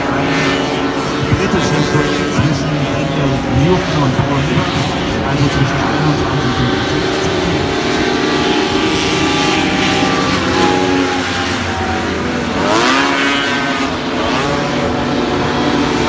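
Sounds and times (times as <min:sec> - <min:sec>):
hovercraft engines running hard: 0:00.0 - 0:16.0.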